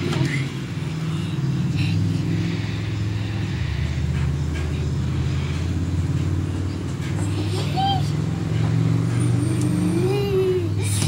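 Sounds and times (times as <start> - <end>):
low mechanical motor hum: 0.0 - 11.0.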